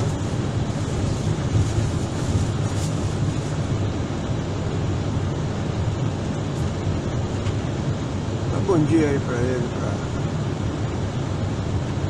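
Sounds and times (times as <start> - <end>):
even cabin hiss: 0.0 - 11.8
airliner cabin rumble: 0.0 - 12.0.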